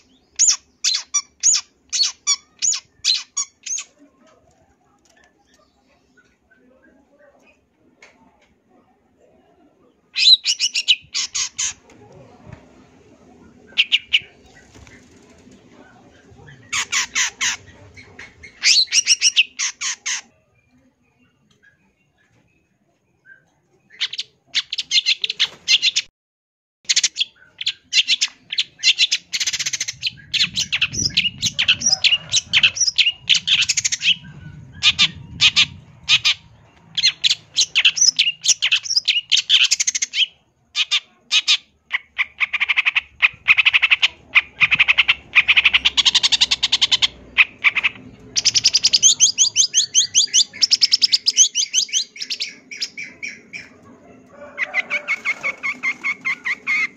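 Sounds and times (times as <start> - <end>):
bird chattering song: 0.0 - 4.1, 10.1 - 11.8, 13.4 - 22.4, 23.2 - 26.1, 26.9 - 53.9, 54.7 - 56.9.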